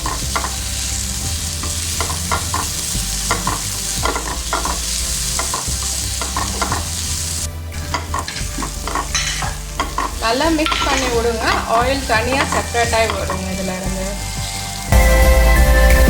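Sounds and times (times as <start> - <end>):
spatula scraping a pan: 0.0 - 14.8
steady sizzle: 0.0 - 16.0.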